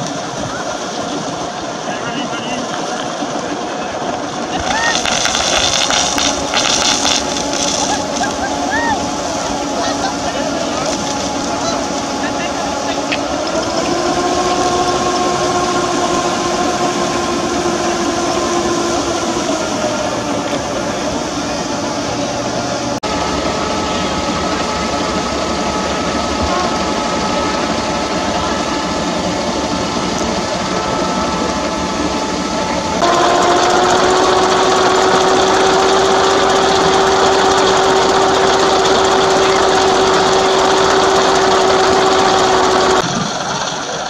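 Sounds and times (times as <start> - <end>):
engine running: 0.0 - 44.0
pump whining: 0.0 - 44.0.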